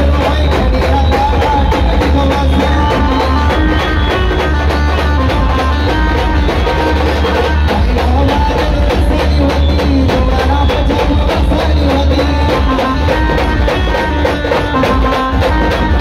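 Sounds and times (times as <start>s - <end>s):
loud band music over speakers: 0.0s - 16.0s.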